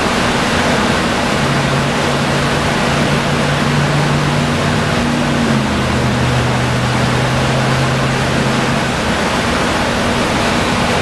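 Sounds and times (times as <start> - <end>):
low engine hum: 0.0 - 11.0
suction tube rushing: 0.0 - 11.0.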